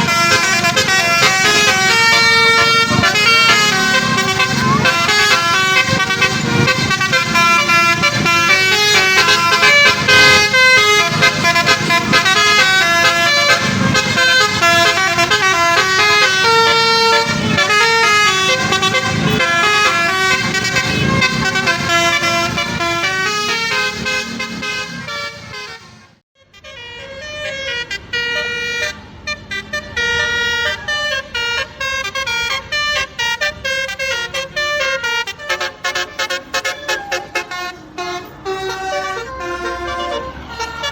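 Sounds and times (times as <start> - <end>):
bus musical horns playing a tune: 0.0 - 40.9.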